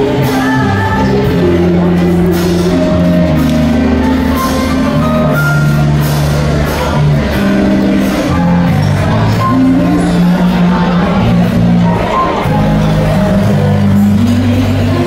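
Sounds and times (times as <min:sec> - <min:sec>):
background music with bass and melody: 0:00.0 - 0:15.0.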